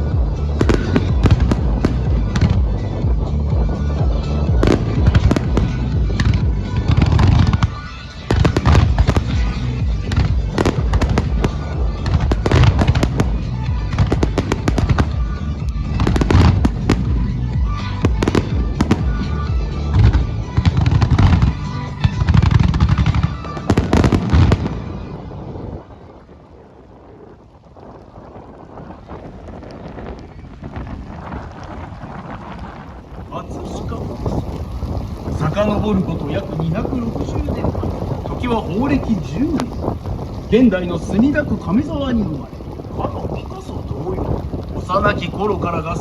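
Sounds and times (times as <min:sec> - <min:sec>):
music over loudspeakers: 0:00.0 - 0:25.4, 0:33.2 - 0:46.0
fireworks bangs and crackles: 0:00.0 - 0:46.0.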